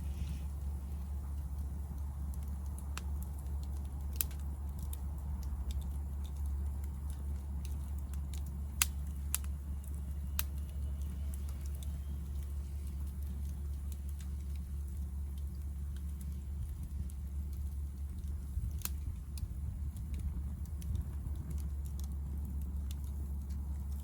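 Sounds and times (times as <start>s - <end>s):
firewood crackling and popping: 0.0s - 24.0s
steady low rumble: 0.0s - 24.0s.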